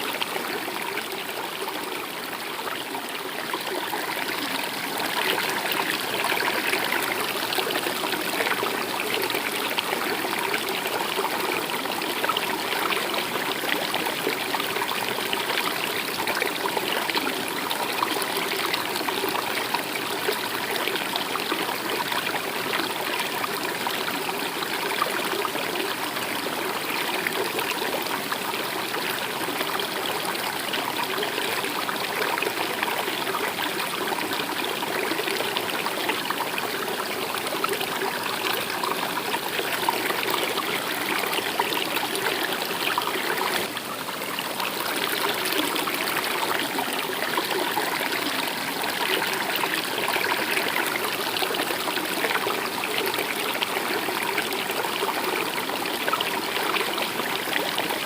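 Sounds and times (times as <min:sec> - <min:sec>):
stream of water trickling: 0:00.0 - 0:58.0.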